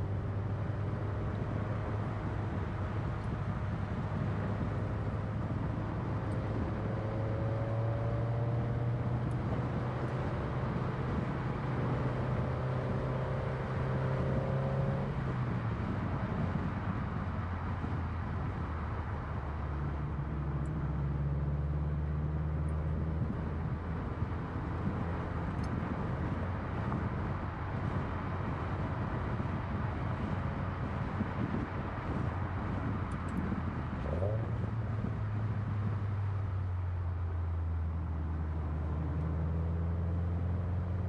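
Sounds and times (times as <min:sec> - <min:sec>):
tyre and road noise: 0:00.0 - 0:41.0.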